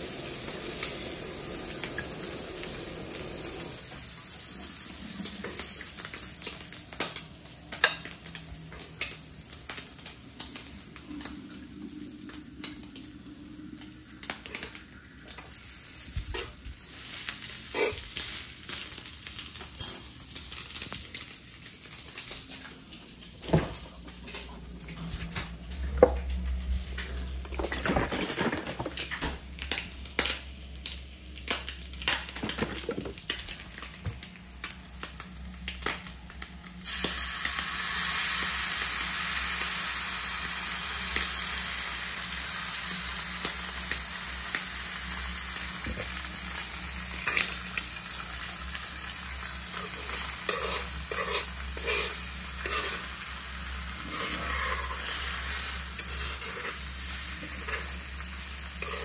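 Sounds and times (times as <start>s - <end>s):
bacon sizzling on a griddle: 0.0s - 11.4s, 12.2s - 22.6s, 29.4s - 59.0s.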